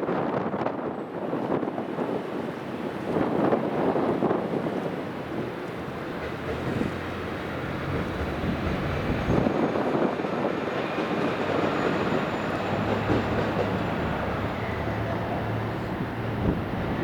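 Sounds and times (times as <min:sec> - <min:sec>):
train wheels rumbling: 0:03.0 - 0:17.0.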